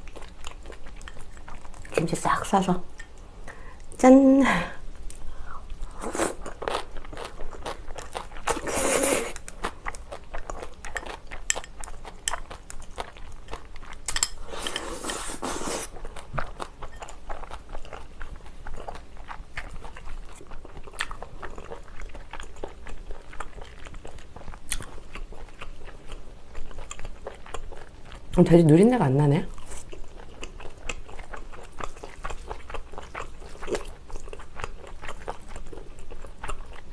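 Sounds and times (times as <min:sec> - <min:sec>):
person chewing food: 0:00.0 - 0:02.0, 0:05.0 - 0:28.3, 0:29.5 - 0:36.9.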